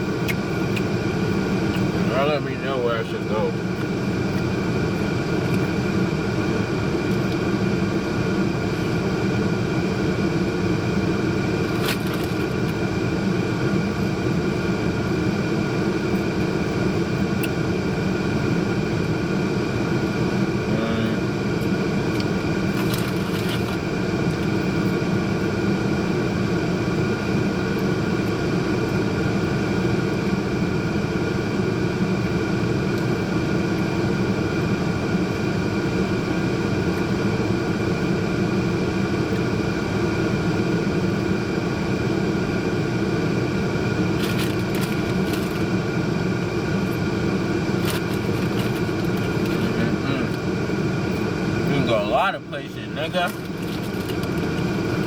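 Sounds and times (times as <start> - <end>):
car engine hum inside cabin: 0.0 - 55.0.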